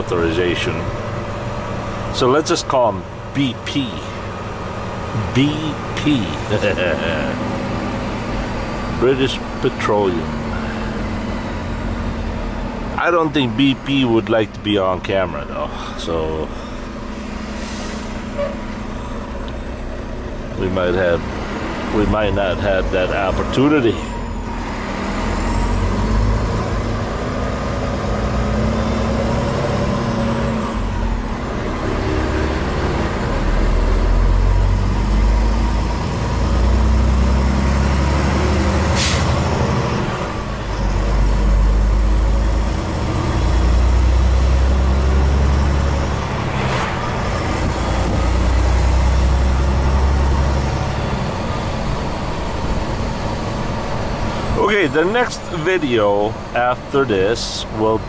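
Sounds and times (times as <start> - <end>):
diesel truck engine drone: 0.0 - 58.0.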